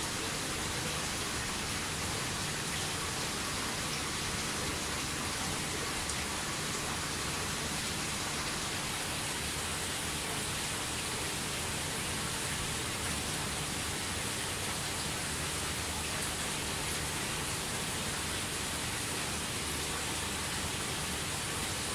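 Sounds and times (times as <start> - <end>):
aquarium water circulation hiss: 0.0 - 21.9.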